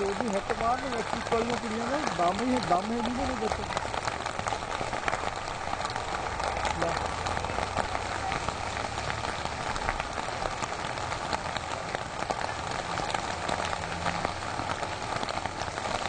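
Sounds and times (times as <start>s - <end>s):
outdoor noise: 0.0s - 16.0s
small irregular clicks and crackles: 0.0s - 16.0s.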